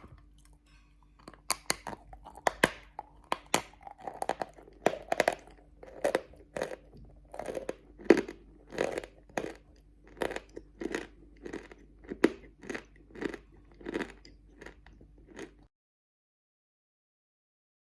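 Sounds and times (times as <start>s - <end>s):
person chewing crunchy chalk: 0.0s - 15.7s.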